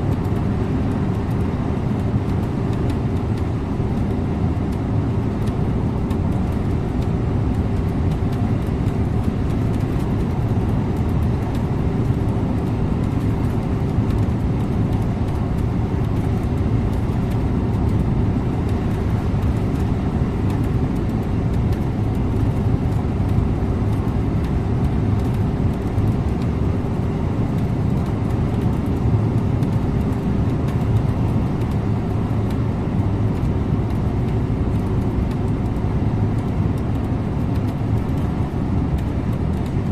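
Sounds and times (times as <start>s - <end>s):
bus engine and tyre rumble: 0.0s - 39.9s.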